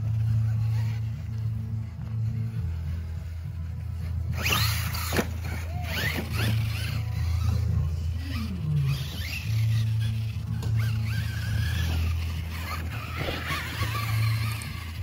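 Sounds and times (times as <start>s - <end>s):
toy truck electric motor whining: 0.0s - 15.0s.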